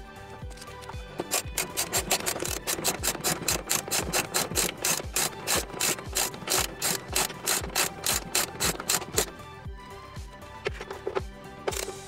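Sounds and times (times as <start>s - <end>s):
ratchet wrench clicking rapidly: 0.5s - 9.4s, 10.7s - 12.0s.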